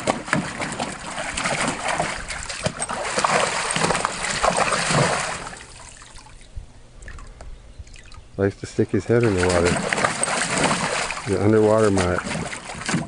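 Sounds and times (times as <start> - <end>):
water splashing in a plastic pool: 0.0 - 13.0.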